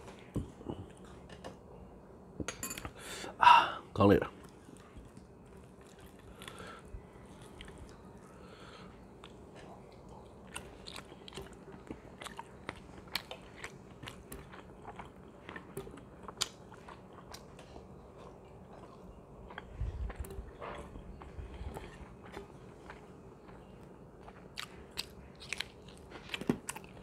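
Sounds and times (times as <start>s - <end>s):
man chewing with wet clicks: 4.4s - 8.4s, 9.1s - 27.0s.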